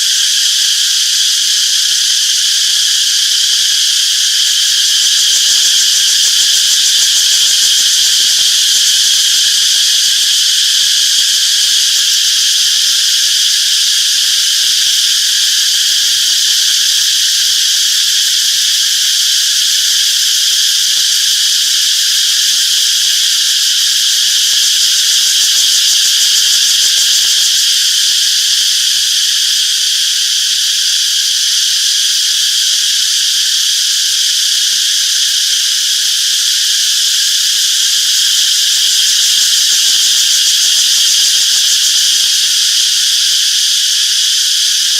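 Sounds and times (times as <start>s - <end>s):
cicadas chirping: 0.0s - 44.9s.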